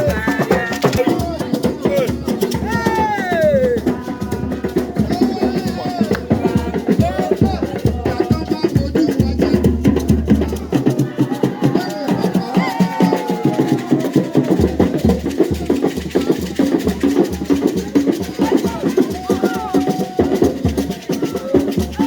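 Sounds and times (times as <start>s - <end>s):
fast percussion-heavy music: 0.0s - 22.0s.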